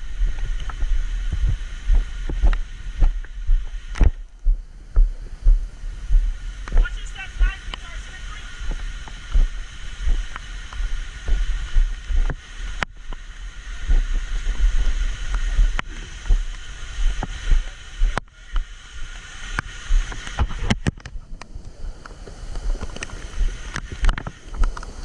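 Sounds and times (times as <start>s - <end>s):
faint hiss: 0.0s - 25.0s
low rumbling: 0.0s - 25.0s.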